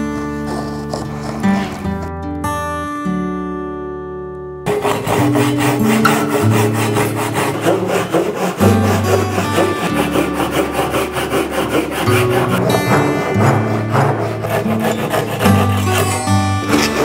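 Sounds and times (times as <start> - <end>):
hand saw cutting wood: 0.0 - 2.1, 4.7 - 17.0
background music: 0.0 - 17.0.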